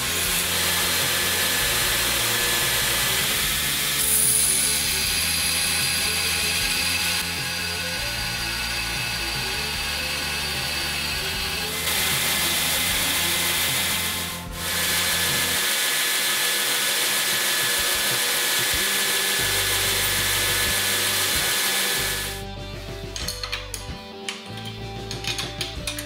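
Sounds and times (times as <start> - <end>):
electric motor humming: 0.0 - 22.9.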